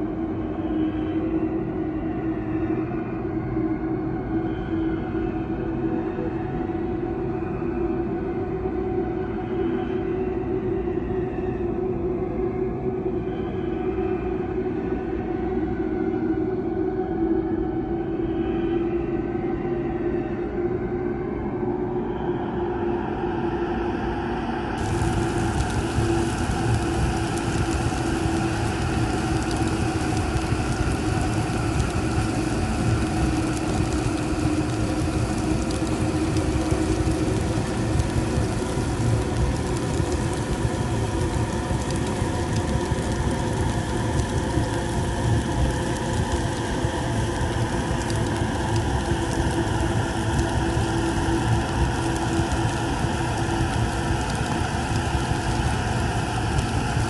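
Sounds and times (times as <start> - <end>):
dark rumbling drone: 0.0 - 57.0.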